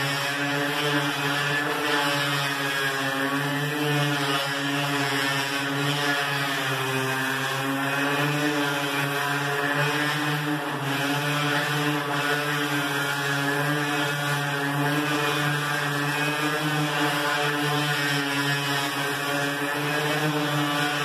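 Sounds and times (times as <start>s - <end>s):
orbital sander on metal: 0.0s - 21.0s.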